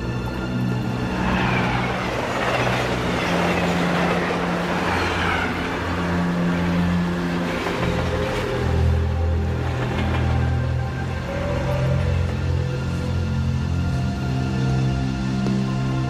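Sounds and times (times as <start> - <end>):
dark tense drama score: 0.0 - 16.0.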